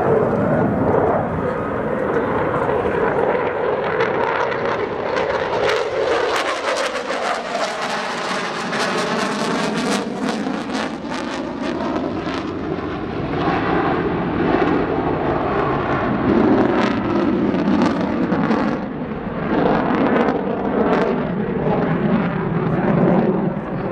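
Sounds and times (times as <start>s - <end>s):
jet engine noise crackling: 0.0s - 23.9s.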